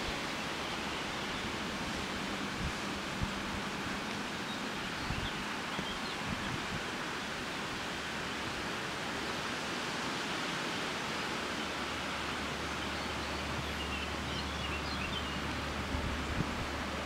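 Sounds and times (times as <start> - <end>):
wind and rustling: 0.0 - 17.0.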